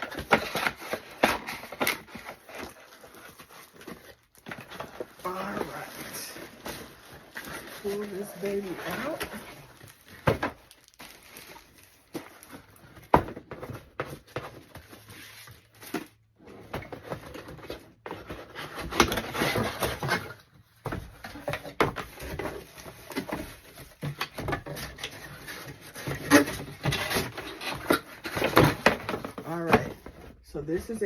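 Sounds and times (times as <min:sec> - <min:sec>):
cardboard packaging rustling: 0:00.0 - 0:31.0.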